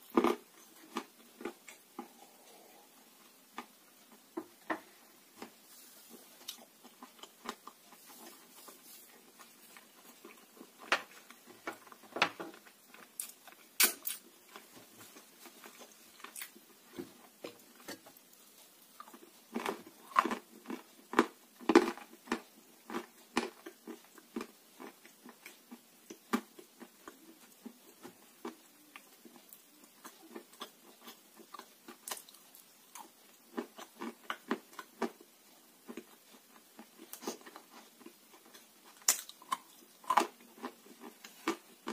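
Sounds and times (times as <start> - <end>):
soft chewing: 0.0 - 41.9.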